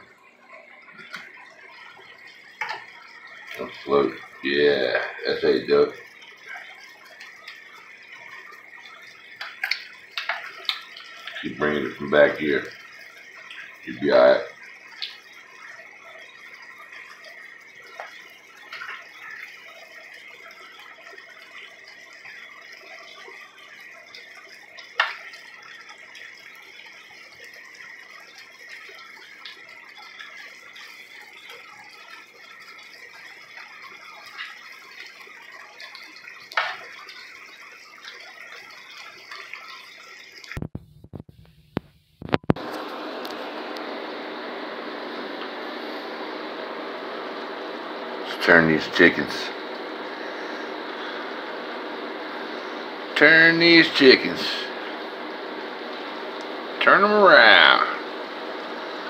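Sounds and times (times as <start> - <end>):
sauce simmering and bubbling: 0.0 - 41.2, 42.2 - 59.0.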